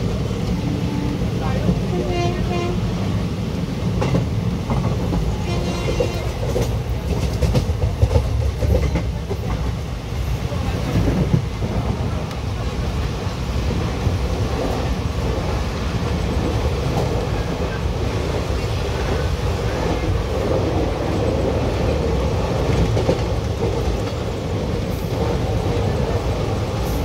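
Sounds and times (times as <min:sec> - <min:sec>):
train wheels on rails: 0:00.0 - 0:27.0.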